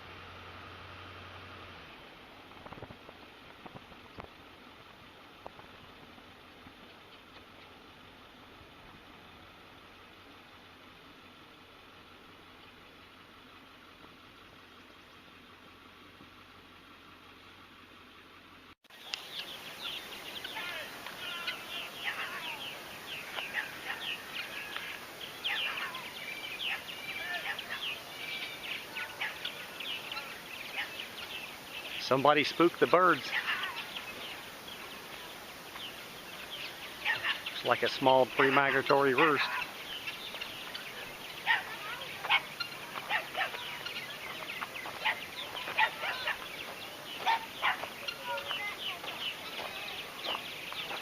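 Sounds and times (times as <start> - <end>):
flock of birds chirping: 0.0 - 51.0.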